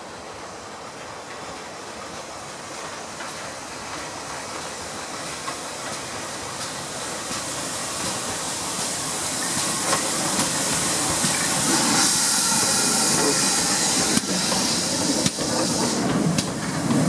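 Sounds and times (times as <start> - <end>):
hiss of steam: 0.0 - 17.0
steam locomotive: 0.0 - 17.0.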